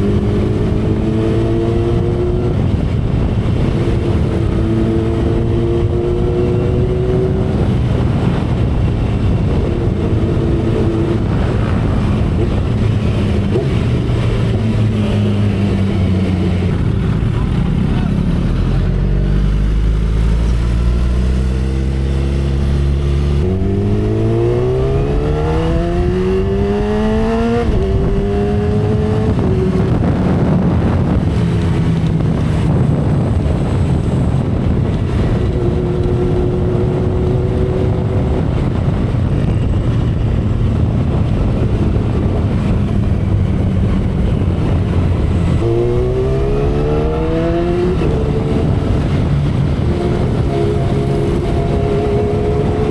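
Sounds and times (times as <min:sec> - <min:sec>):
heavy wind noise: 0:00.0 - 0:52.9
motorcycle engine accelerating: 0:00.0 - 0:52.9.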